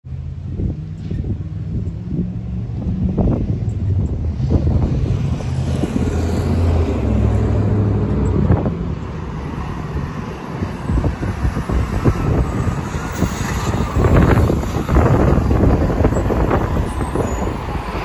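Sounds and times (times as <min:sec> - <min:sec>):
road traffic: 0:00.0 - 0:18.0
fire engine diesel engine passing: 0:00.1 - 0:18.0
wind buffeting microphone: 0:00.1 - 0:18.0.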